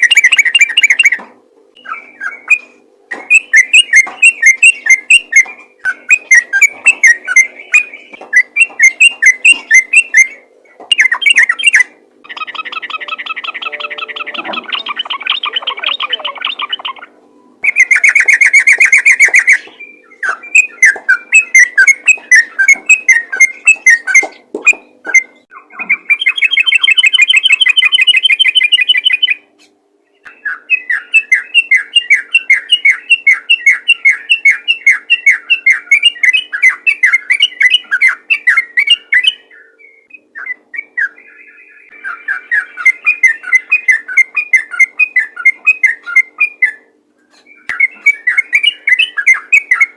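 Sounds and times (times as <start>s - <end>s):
bird singing chattering notes: 0.0s - 29.5s, 30.1s - 49.9s.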